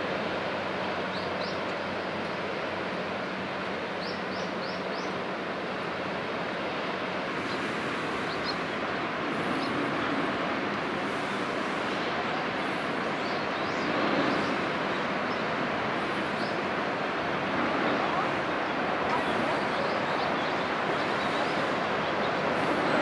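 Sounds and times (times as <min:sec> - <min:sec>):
large ship passing: 0:00.0 - 0:23.0.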